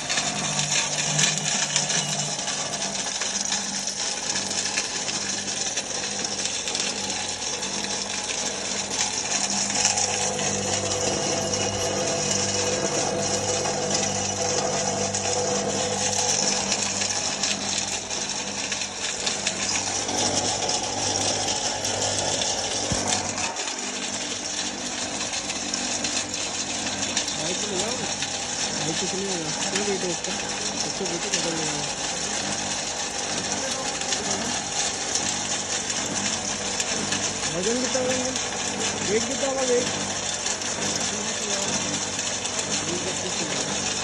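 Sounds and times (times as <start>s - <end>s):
mixer grinder whirring: 0.0s - 44.0s.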